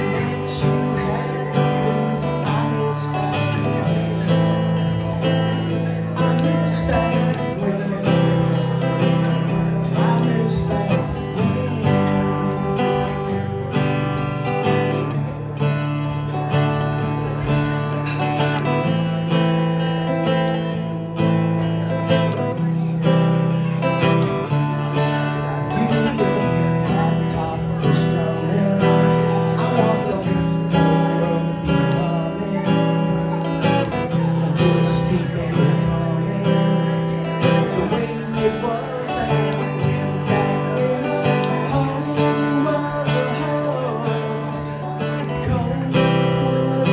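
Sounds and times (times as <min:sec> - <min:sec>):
strummed acoustic guitar: 0:00.0 - 0:46.9.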